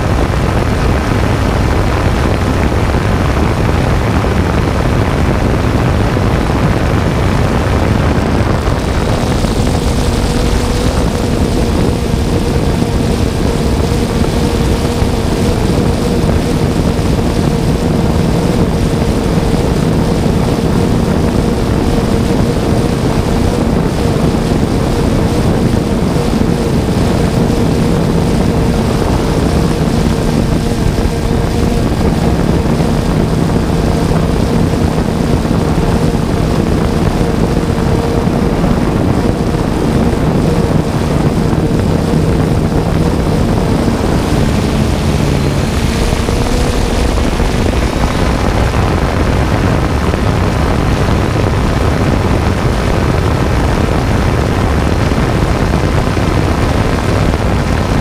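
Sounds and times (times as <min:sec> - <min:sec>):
drone propellers whirring: 0:00.0 - 0:58.0.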